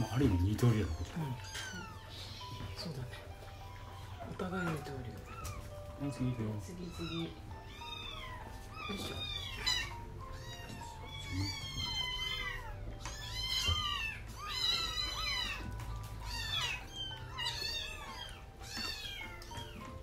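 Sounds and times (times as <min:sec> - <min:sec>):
kittens mewing: 0:00.0 - 0:20.0.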